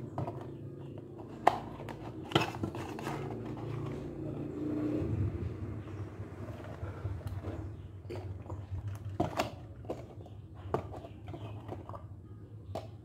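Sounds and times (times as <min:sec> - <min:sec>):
plastic cups knocking: 0:00.0 - 0:04.2, 0:06.5 - 0:13.0.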